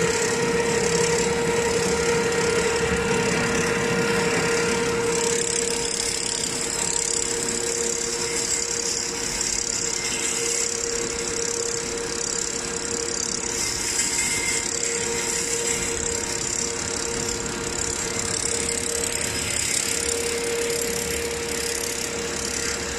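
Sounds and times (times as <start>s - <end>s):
wire drawing machine humming: 0.0s - 22.9s.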